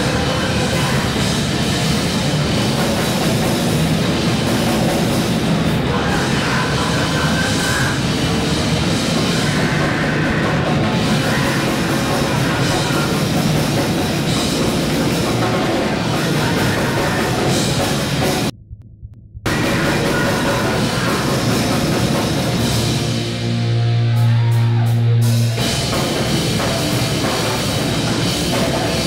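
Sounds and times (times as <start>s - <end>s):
live grindcore band playing: 0.0s - 18.5s, 19.5s - 29.0s.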